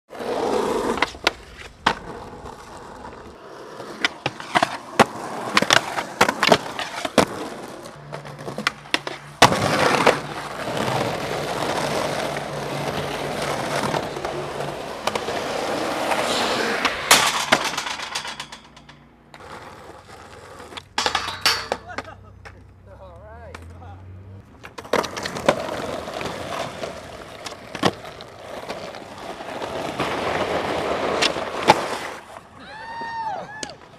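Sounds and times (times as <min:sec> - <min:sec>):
skateboard wheels rolling: 0:00.1 - 0:33.9
skateboard clacks: 0:00.2 - 0:22.8, 0:23.4 - 0:23.8, 0:24.5 - 0:33.9.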